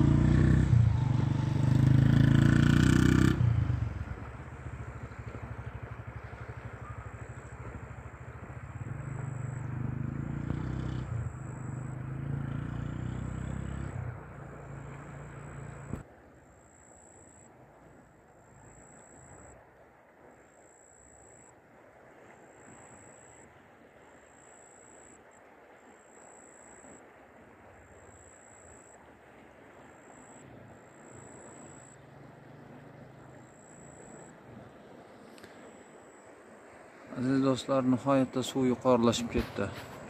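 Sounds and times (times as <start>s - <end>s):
river flowing: 0.0s - 40.0s
wind: 0.0s - 40.0s.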